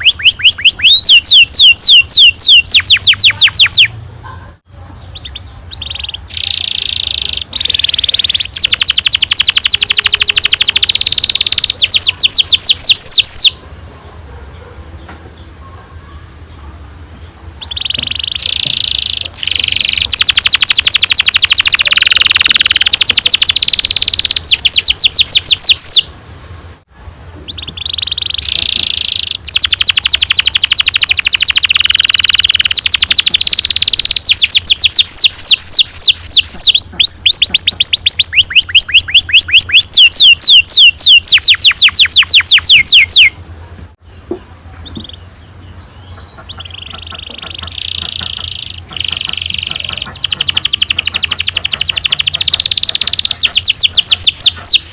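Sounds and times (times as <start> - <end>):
canary singing trills: 0.0 - 26.1, 27.4 - 43.4, 44.0 - 54.9.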